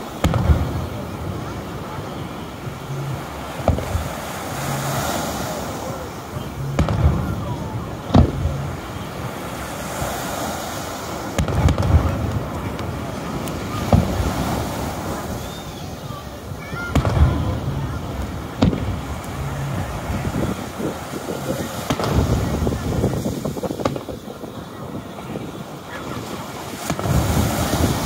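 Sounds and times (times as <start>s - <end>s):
fireworks booming: 0.0s - 2.7s, 3.4s - 4.3s, 6.6s - 9.4s, 11.0s - 28.0s.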